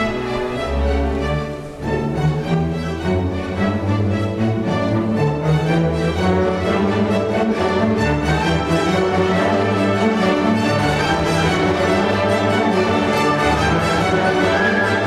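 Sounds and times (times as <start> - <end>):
symphony orchestra playing: 0.0 - 15.0.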